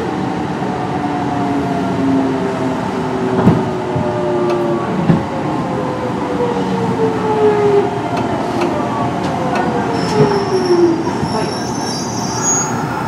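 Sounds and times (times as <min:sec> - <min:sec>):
train inverter whining: 0:00.0 - 0:13.0
train running noise: 0:00.0 - 0:13.0.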